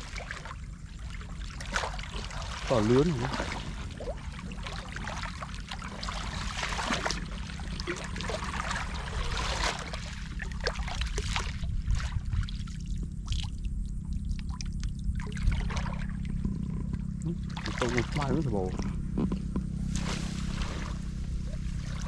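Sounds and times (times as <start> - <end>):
low rumble: 0.0 - 22.0
muddy water splashing and trickling: 0.0 - 22.0.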